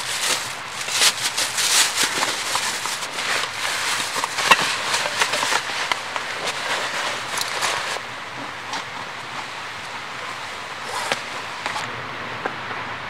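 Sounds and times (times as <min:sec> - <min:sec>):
fabric rustling: 0:00.0 - 0:11.8
steady background hiss: 0:00.0 - 0:13.0.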